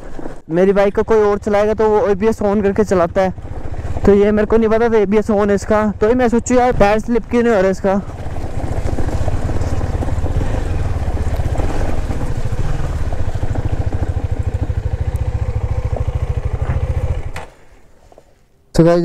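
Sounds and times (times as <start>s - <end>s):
motorcycle engine running: 0.6s - 17.7s.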